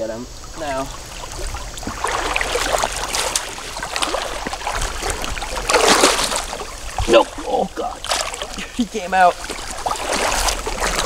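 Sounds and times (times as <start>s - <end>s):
fish splashing at surface: 0.4s - 11.0s.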